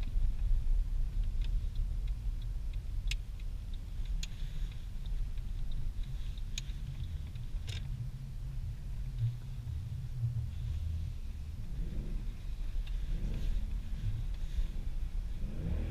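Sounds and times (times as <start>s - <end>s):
car engine and road drone: 0.0s - 15.9s.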